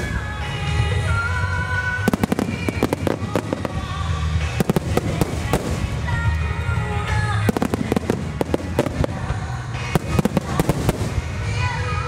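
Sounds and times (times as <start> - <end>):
ground fireworks launches: 0.0 - 12.0
music playing: 0.0 - 12.0.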